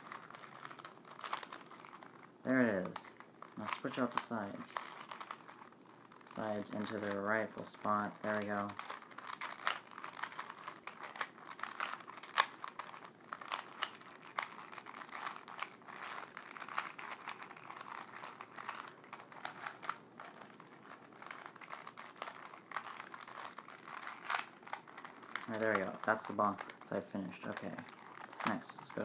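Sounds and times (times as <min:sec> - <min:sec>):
plastic puzzle cube clicking: 0:00.0 - 0:26.8
light handling rustle: 0:00.0 - 0:29.0.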